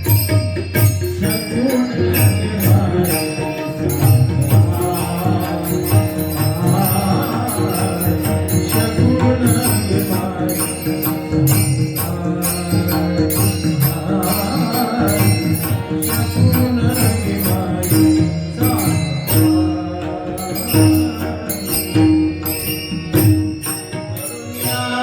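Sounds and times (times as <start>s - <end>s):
instrumental accompaniment: 0.0s - 25.0s
metallic hand percussion beat: 0.0s - 25.0s
devotional singing: 1.2s - 22.6s, 24.1s - 25.0s.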